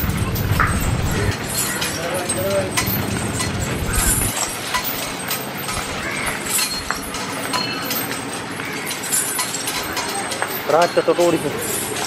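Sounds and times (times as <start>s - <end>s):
iron chains clinking: 0.0s - 12.0s.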